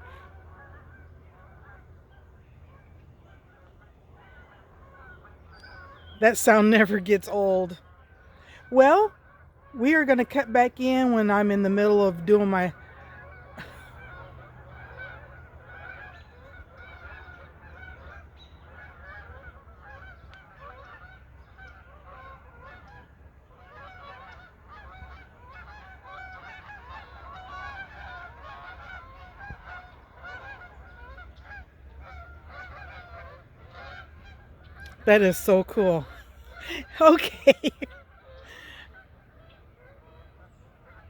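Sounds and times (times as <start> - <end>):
geese honking: 0.0 - 41.0.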